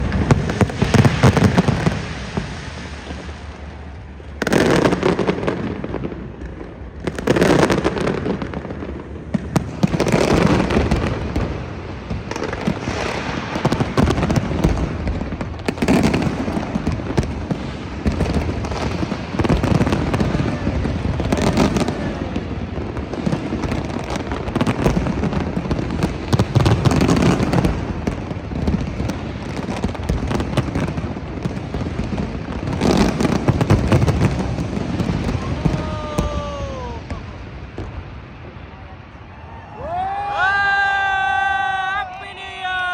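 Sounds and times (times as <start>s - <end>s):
fireworks booming: 0.0s - 42.9s
fireworks crackling: 0.0s - 42.9s.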